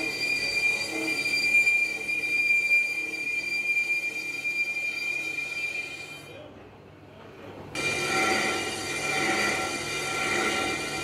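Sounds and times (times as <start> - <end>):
lathe tool squealing on metal: 0.0 - 6.3, 7.8 - 11.0.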